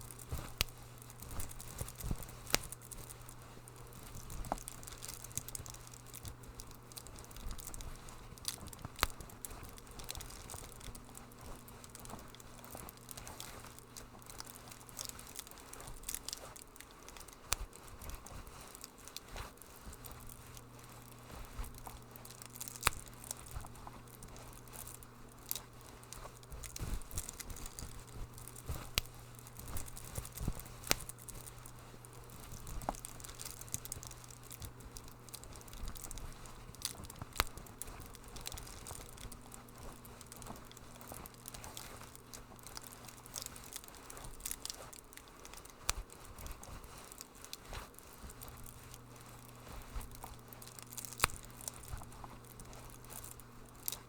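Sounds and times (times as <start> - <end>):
faint low hum: 0.0 - 54.0
wood fire crackling and popping: 0.0 - 54.0.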